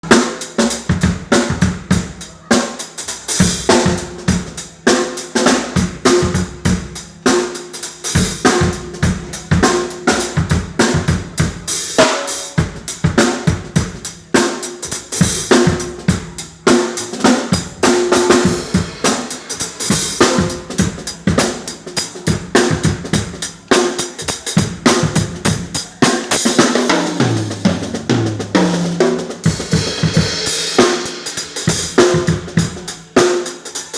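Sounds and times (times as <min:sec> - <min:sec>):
drum kit playing: 0:00.0 - 0:33.9.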